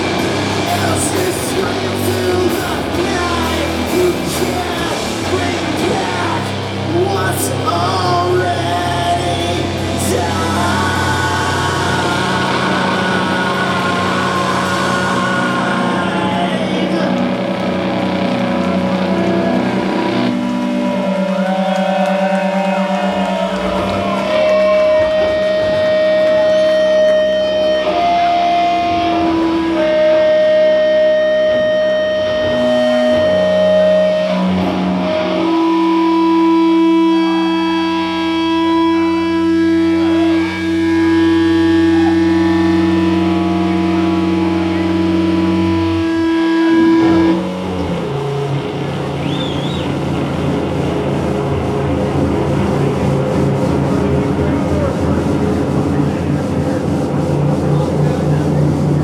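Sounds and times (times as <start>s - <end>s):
distorted electric guitars: 0.0s - 59.0s
low droning bass: 0.0s - 59.0s.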